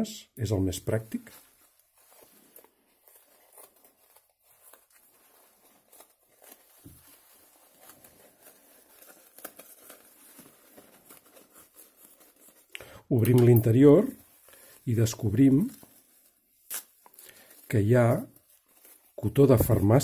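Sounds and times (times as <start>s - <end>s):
plastic and fabric rustling: 0.6s - 20.0s.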